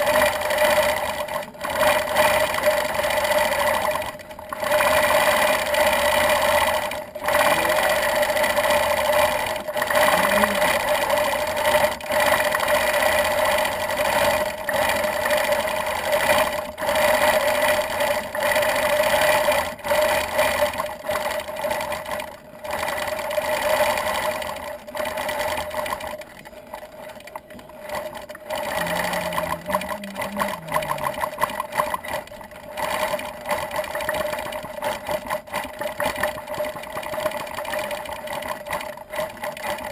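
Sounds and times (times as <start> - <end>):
quilting machine stitching: 0.0 - 39.9.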